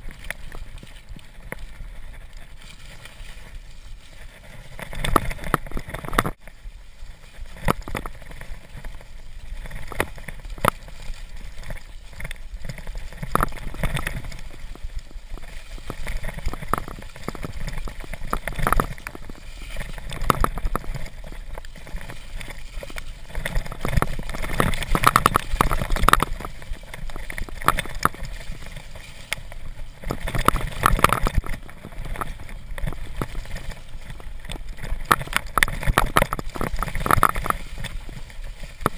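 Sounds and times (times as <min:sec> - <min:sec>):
tyres rolling through slush and mud: 0:00.0 - 0:38.9
bike knocks and rattles: 0:04.2 - 0:06.6, 0:07.4 - 0:38.9.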